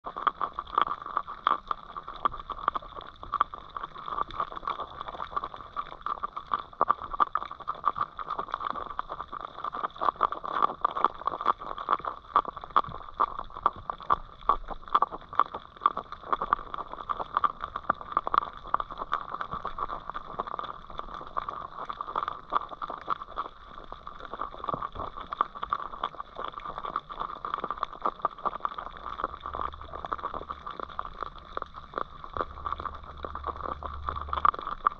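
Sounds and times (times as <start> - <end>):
underwater crackling and clicking: 0.0 - 34.9
underwater hum: 0.0 - 34.9.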